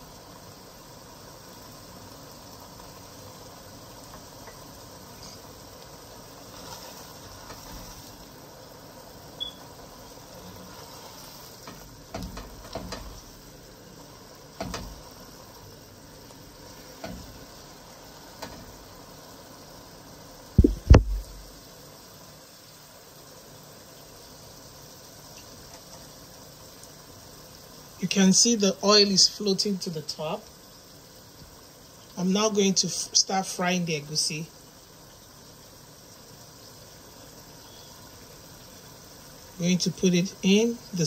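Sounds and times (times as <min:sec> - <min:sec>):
sauce simmering with low hiss: 0:00.0 - 0:41.0.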